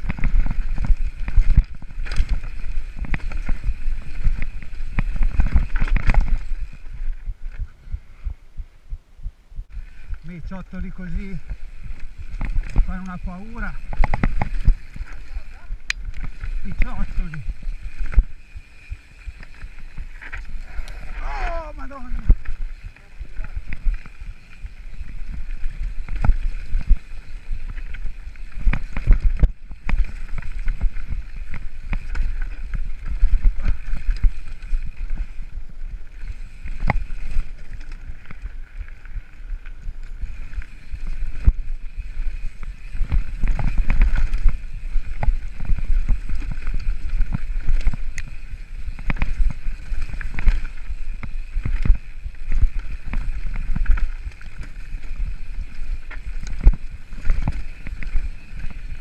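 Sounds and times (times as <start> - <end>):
bike rattling and clacking: 0.0 - 7.5, 9.9 - 59.0
tyres rolling over loose stones: 10.8 - 59.0.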